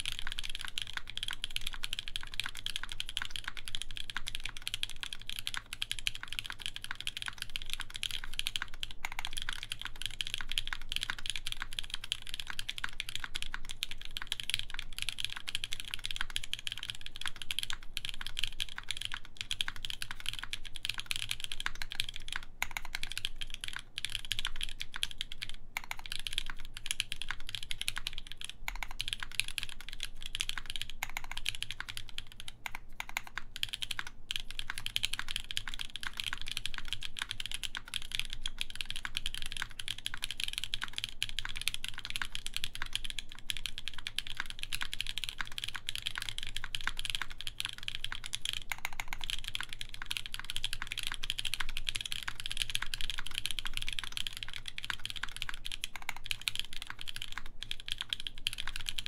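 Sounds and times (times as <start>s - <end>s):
fast typing on mechanical keyboard: 0.0s - 59.0s.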